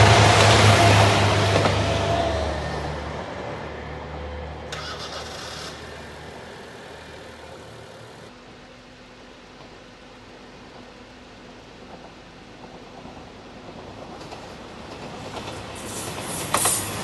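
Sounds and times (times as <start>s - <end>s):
diesel train engine rumble: 0.0s - 17.0s.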